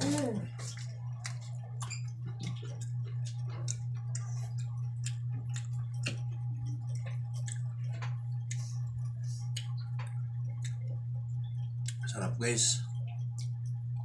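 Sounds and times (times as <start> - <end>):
chewing and smacking: 0.0 - 12.1, 13.0 - 14.0
steady low hum: 0.0 - 14.0.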